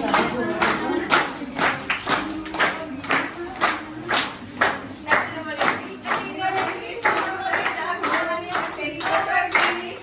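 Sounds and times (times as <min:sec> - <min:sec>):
rhythmic hand clapping: 0:00.0 - 0:10.0
voices singing: 0:00.0 - 0:10.0.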